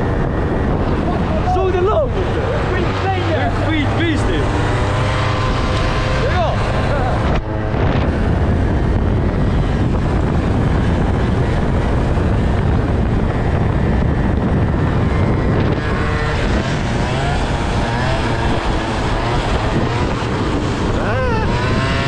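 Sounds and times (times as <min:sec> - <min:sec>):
moped engines running: 0:00.0 - 0:22.0
wind rushing over microphone: 0:00.0 - 0:22.0.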